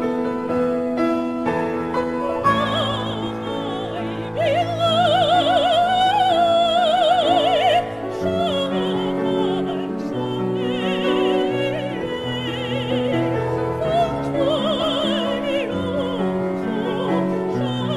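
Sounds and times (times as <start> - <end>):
piano accompaniment: 0.0 - 17.9
woman singing soprano: 2.2 - 17.9.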